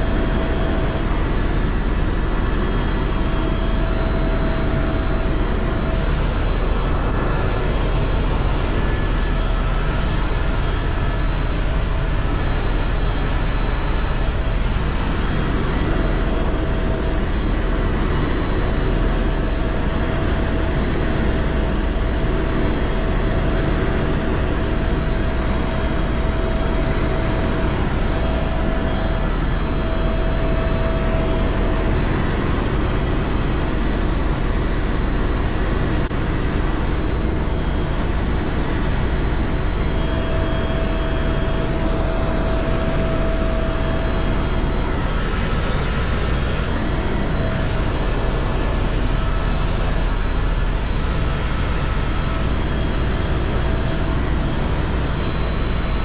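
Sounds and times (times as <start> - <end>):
faint steady whine: 0.0 - 56.0
helicopter engine and rotor drone: 0.0 - 56.0.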